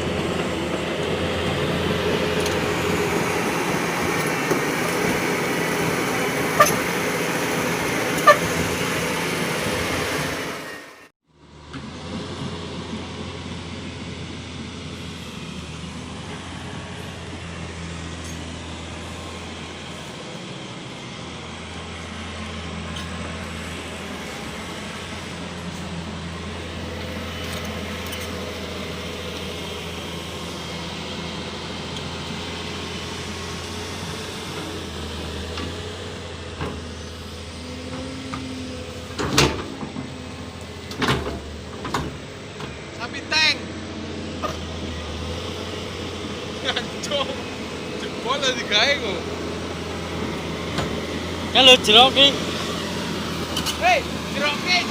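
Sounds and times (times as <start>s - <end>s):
excavator diesel engine running: 0.0s - 54.9s
hydraulics humming: 0.0s - 54.9s.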